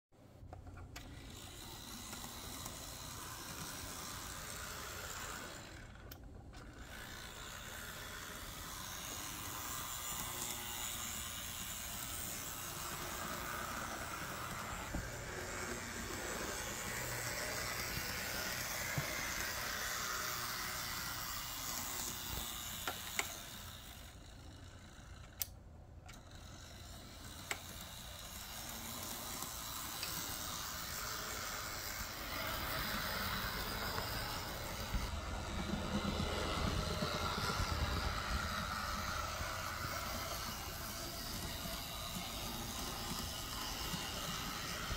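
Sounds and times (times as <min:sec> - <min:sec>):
model train motor whirring: 0:00.4 - 0:44.9.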